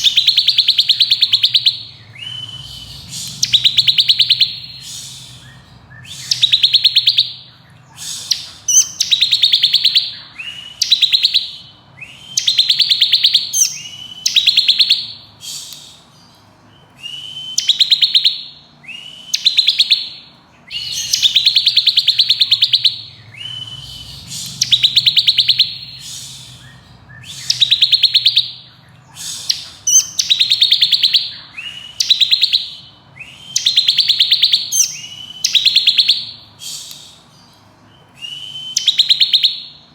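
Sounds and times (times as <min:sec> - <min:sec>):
bird singing rapid high trills: 0:00.0 - 0:39.9
faint low hum: 0:00.0 - 0:39.9.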